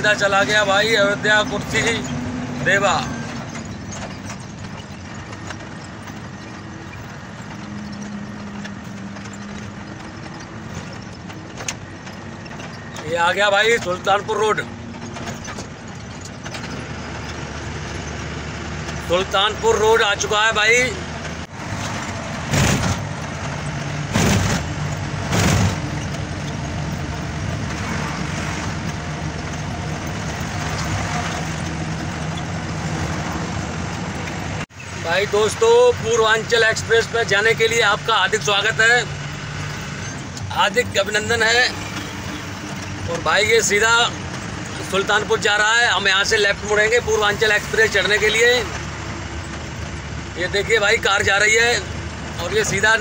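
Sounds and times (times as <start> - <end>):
road and tyre noise: 0.0 - 53.0
truck engine hum: 0.0 - 53.0.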